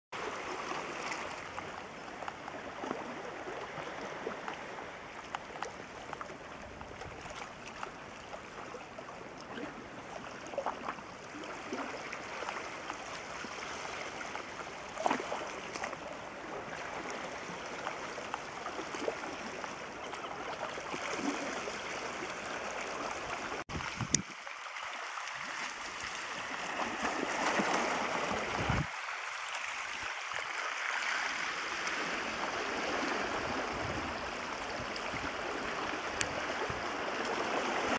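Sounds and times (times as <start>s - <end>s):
seawater washing among rocks: 0.2s - 37.9s.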